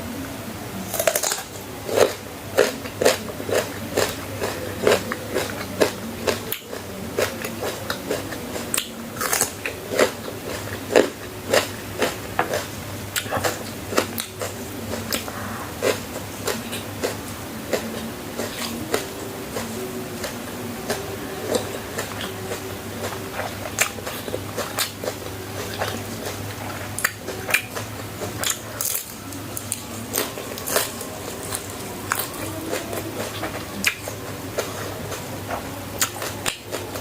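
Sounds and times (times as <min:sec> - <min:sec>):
chewing crunchy food: 0:00.9 - 0:37.0.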